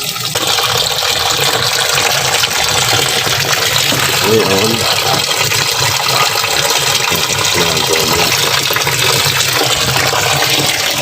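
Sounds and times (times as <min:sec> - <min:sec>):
water filling washing machine: 0:00.0 - 0:11.0.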